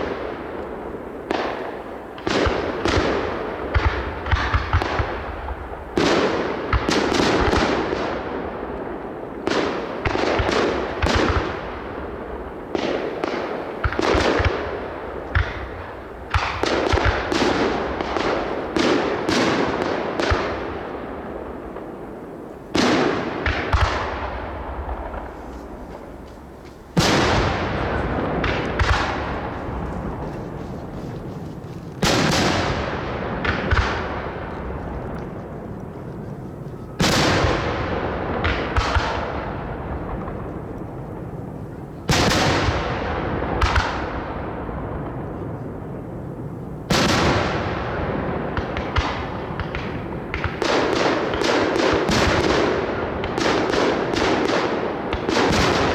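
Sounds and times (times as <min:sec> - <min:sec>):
fireworks bangs with echo: 0:00.0 - 0:55.9
heavy fireworks booms: 0:00.0 - 0:55.9.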